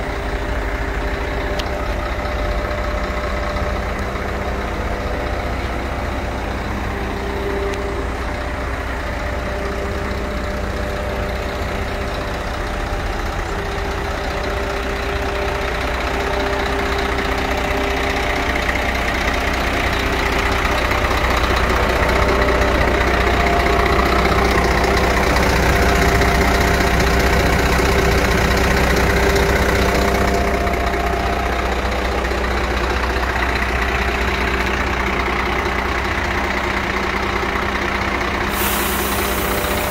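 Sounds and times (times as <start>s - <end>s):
diesel truck idling: 0.0s - 39.9s.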